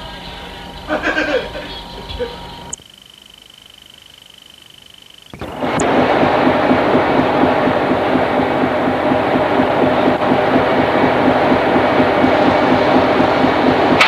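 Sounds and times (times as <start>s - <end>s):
ship engines and deck machinery: 0.0s - 14.0s.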